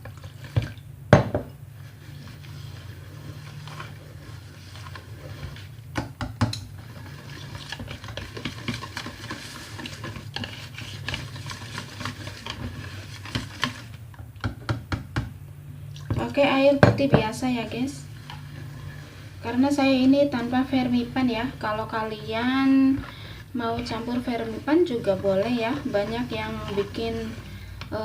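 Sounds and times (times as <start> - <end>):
utensil beating batter in bowl: 0.0 - 15.4, 16.0 - 28.0.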